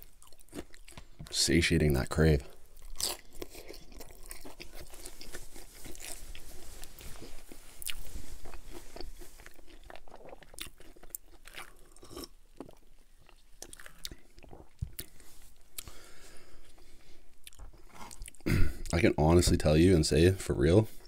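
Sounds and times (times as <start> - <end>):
crisp chewing crunches: 0.0 - 1.4, 2.5 - 16.0, 16.6 - 19.0.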